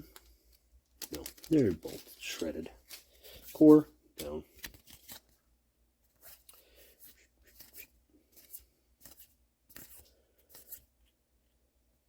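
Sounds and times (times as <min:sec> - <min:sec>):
trading cards rustling and sliding: 0:00.0 - 0:05.4, 0:06.1 - 0:11.0.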